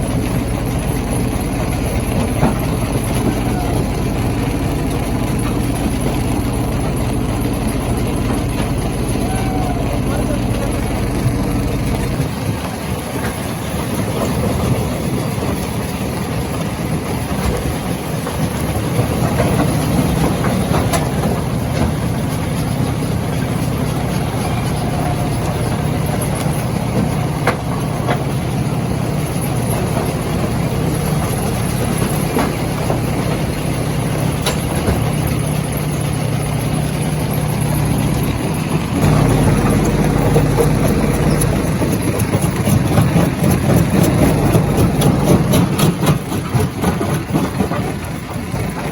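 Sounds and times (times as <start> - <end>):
stone crushing machine rumbling: 0.0 - 48.9.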